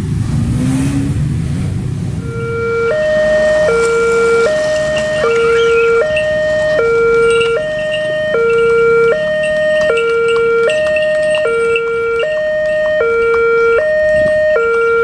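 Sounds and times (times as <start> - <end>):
two-tone crossing warning siren: 2.2 - 15.0.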